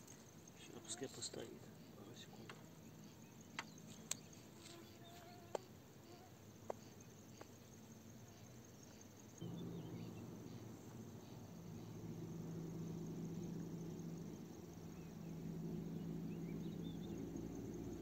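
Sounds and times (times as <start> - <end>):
insect chirring: 0.0 - 18.0
steady low hum: 0.4 - 18.0.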